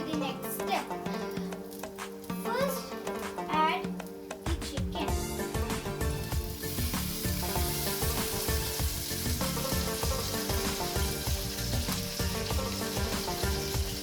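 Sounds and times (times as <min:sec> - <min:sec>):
background music with steady beat: 0:00.0 - 0:14.0
chicken sizzling in hot oil: 0:00.4 - 0:14.0.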